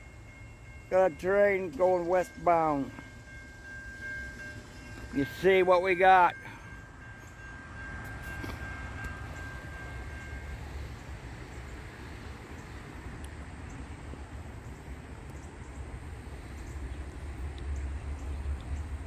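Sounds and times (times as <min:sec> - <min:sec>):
train rumble with hiss: 0:00.0 - 0:19.0.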